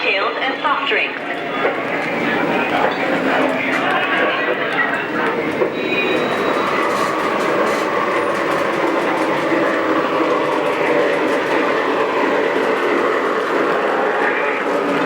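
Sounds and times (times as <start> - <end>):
passenger railroad car ambience: 0.0 - 15.0.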